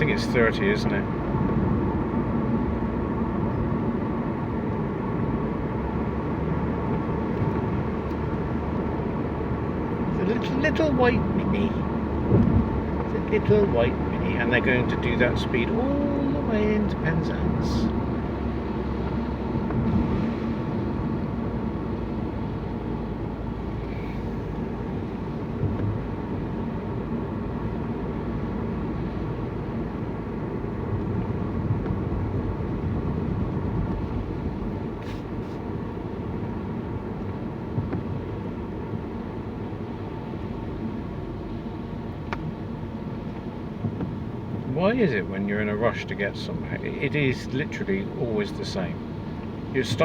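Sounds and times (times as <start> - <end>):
car engine and tyre noise: 0.0 - 50.0.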